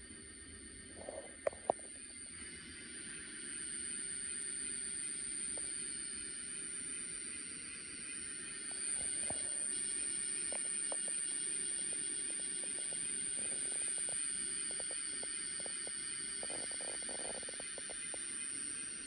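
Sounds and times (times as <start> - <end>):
steady high-pitched tone: 0.0 - 19.0.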